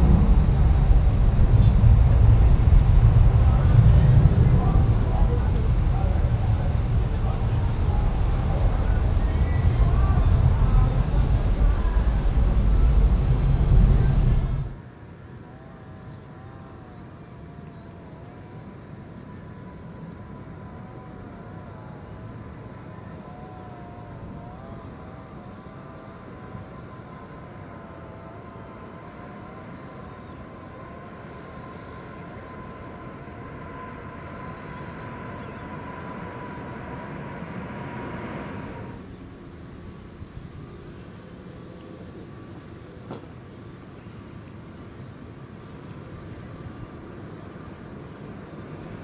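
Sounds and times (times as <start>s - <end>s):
distant jet engines at takeoff: 0.0s - 49.0s.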